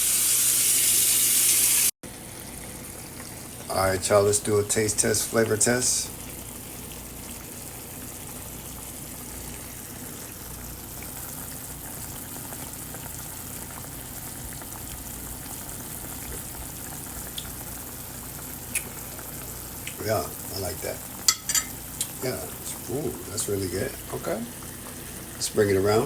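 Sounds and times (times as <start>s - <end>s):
pan simmering and sizzling: 0.0s - 26.0s.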